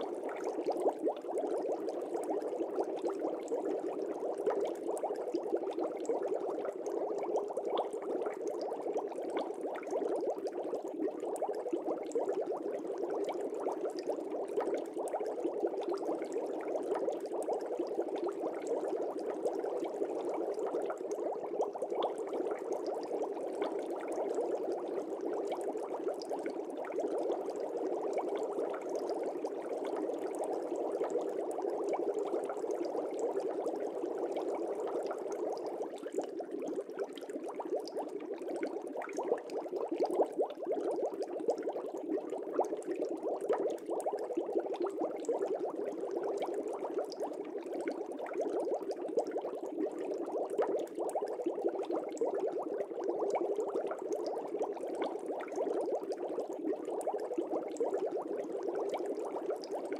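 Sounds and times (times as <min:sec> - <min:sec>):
fish tank bubbling: 0:00.0 - 0:59.9.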